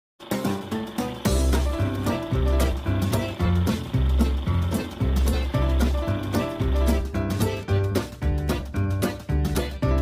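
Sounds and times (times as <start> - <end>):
intro music with strong bass line: 0.4 - 10.0.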